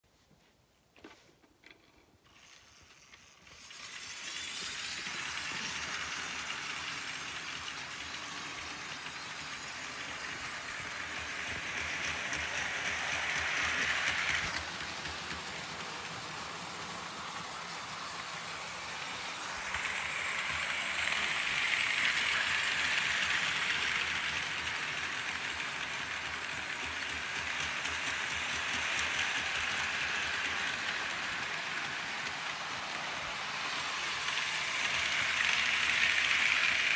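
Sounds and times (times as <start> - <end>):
model train wheels clattering: 1.0 - 36.9.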